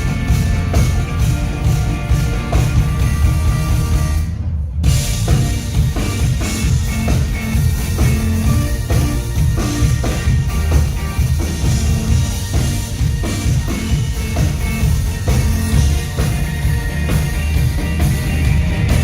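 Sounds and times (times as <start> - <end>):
heavy drum kit beat: 0.0 - 19.0
rock band playing: 0.0 - 19.0.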